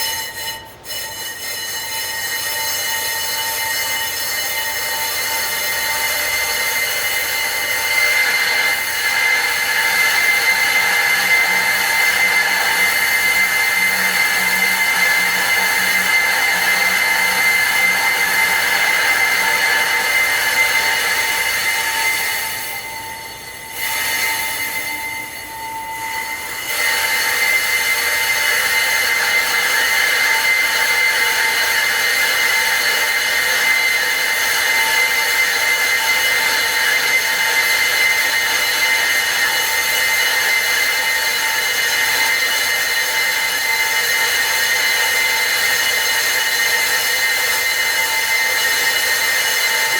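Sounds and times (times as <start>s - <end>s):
workshop machine whining: 0.0s - 49.9s.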